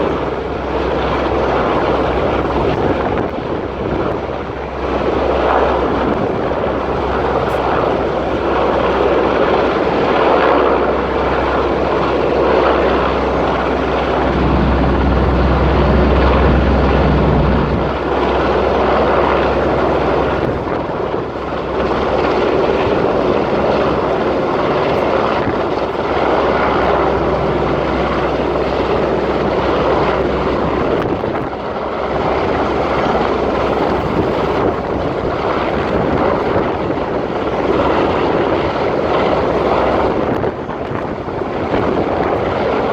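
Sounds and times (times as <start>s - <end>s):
low drone: 0.0s - 40.5s
helicopter rotor and engine: 0.0s - 42.9s.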